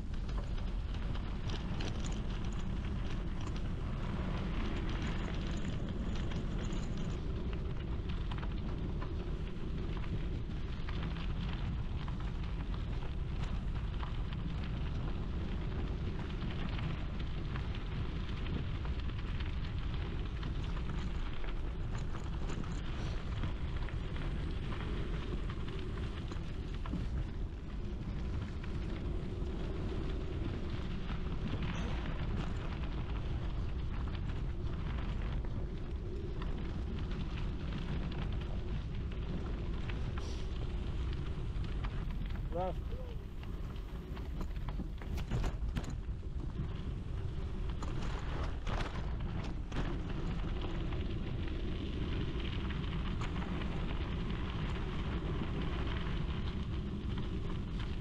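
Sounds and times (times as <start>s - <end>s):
bike tyres on gravel: 0.0s - 58.0s
wind buffeting microphone: 0.0s - 58.0s.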